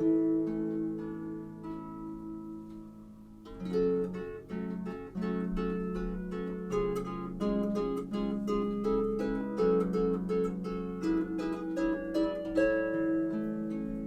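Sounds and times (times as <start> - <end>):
harp music: 0.0 - 14.0.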